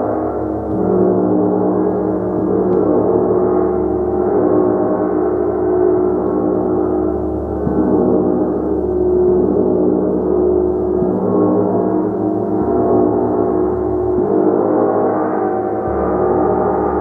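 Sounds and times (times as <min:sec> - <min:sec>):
gong ringing: 0:00.0 - 0:17.0.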